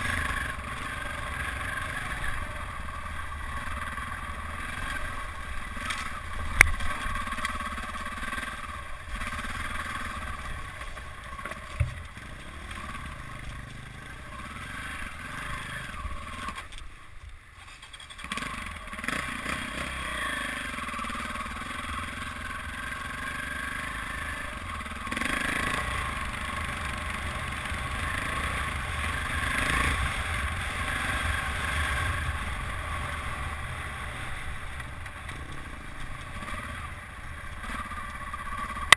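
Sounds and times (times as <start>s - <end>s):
dirt bike engine revving: 0.0s - 16.7s, 17.8s - 38.9s.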